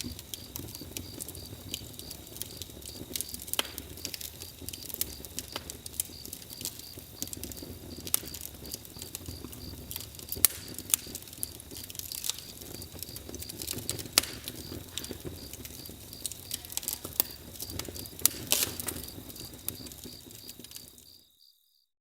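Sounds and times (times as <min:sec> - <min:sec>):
campfire crackling and popping: 0:00.0 - 0:21.2.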